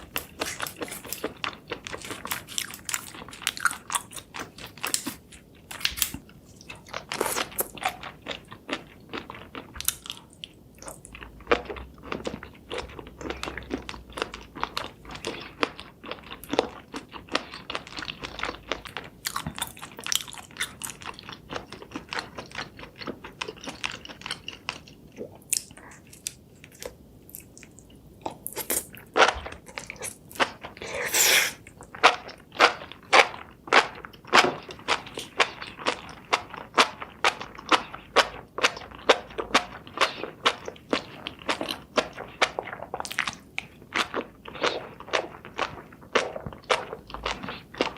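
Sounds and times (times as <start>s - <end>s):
person crunching and chewing food: 0.0s - 47.9s.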